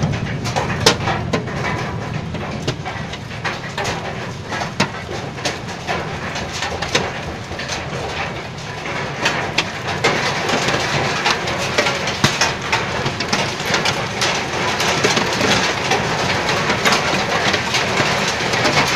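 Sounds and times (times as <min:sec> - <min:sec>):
hail clattering on hard surfaces: 0:00.0 - 0:18.9.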